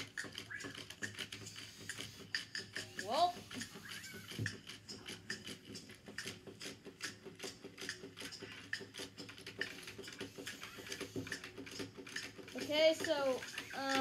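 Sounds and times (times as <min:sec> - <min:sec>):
small irregular clicks: 0:00.0 - 0:14.0.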